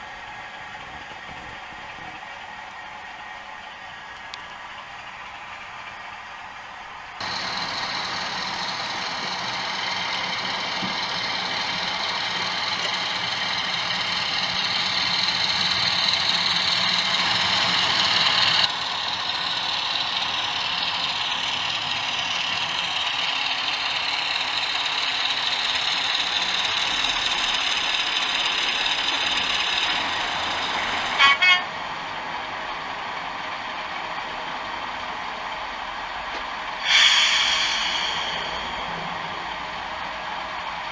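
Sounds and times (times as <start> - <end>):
model locomotive running sound: 0.0 - 40.9.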